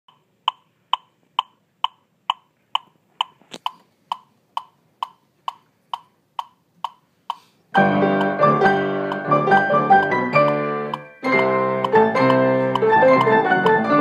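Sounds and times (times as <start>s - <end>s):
metronome clicking: 0.1s - 14.0s.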